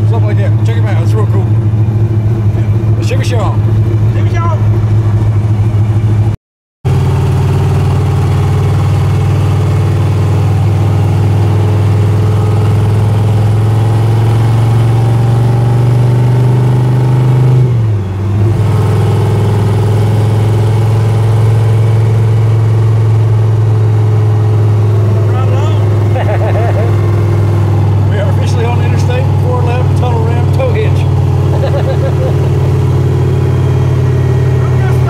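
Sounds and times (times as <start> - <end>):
car engine running under load: 0.0 - 35.0.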